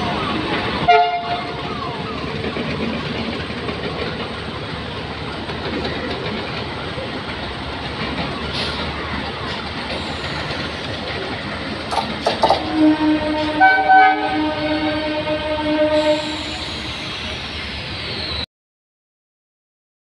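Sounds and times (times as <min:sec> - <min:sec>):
train wheels rumbling on rails: 0:00.0 - 0:18.4.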